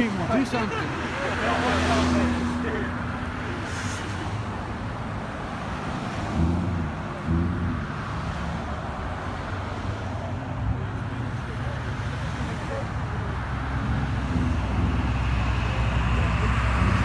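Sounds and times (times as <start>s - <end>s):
cars driving past slowly: 0.0s - 17.0s.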